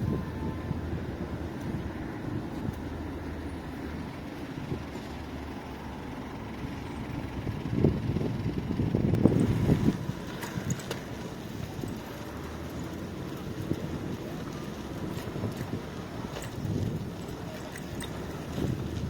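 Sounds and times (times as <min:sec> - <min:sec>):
motor vehicle rumble: 0:00.0 - 0:19.0.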